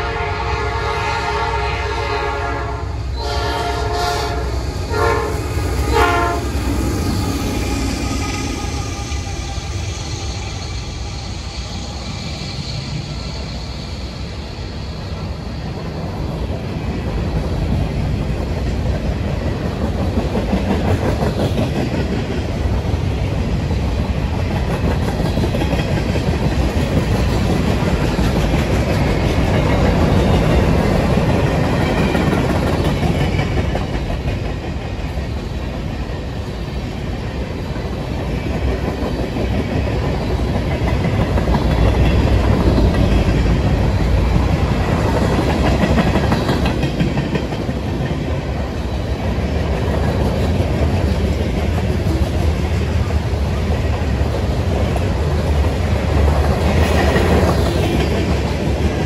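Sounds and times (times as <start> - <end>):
train wheels running over rails: 3.0 - 59.0.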